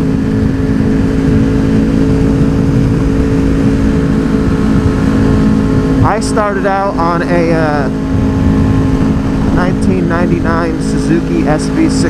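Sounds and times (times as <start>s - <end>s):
motorcycle engine cruising: 0.0s - 12.0s
wind rushing: 0.0s - 12.0s.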